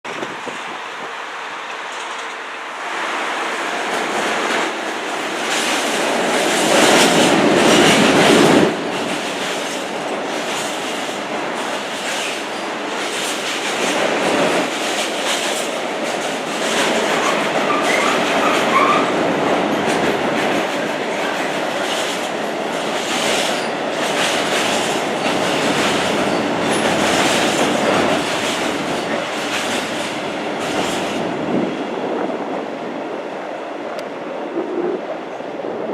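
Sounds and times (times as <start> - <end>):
train wheels clattering on rails: 1.6 - 2.6, 3.3 - 31.9.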